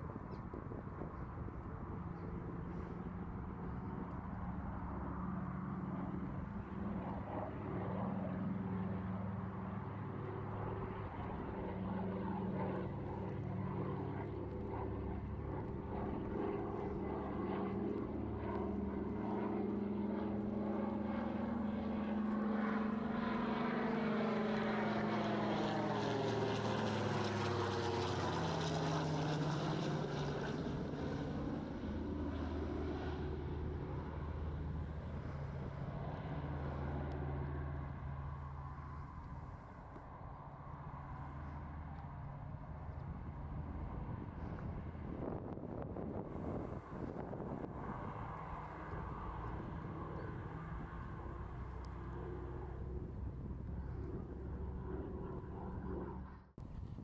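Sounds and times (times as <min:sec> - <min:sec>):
propeller plane engines droning: 0:00.0 - 0:57.0.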